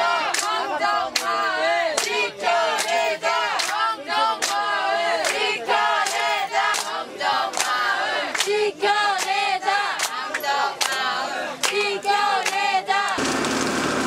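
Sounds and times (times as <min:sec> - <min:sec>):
crowd singing in unison: 0:00.0 - 0:13.2
hands clapping to the beat: 0:00.2 - 0:13.2.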